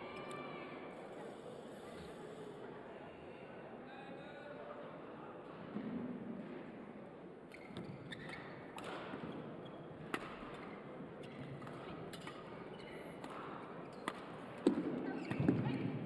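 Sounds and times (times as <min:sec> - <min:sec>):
sports hall hum: 0:00.0 - 0:16.0.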